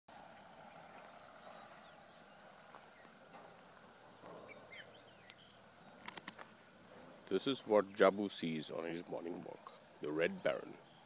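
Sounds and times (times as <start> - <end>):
distant bird chirps: 0.1 - 11.0
faint high hum: 0.1 - 11.0.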